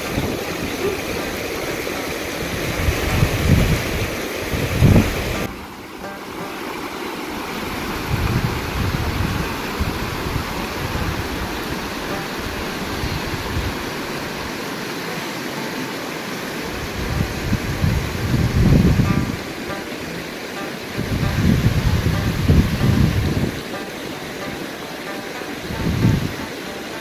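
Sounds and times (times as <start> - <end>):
river rushing over stones: 0.0 - 27.0.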